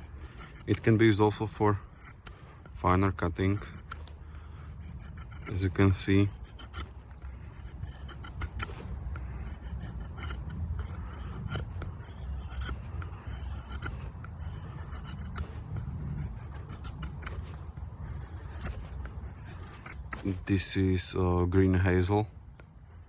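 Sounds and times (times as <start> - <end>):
knife shaving wood: 0.0 - 20.5.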